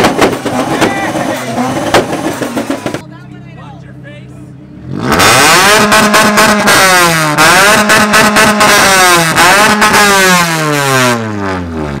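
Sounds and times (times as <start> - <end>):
car engine revving hard: 0.0 - 3.0, 4.8 - 12.0.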